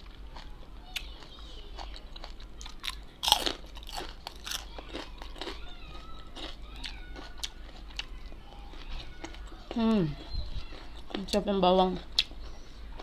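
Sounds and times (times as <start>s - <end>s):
crunching and chewing garlic: 0.0s - 13.0s.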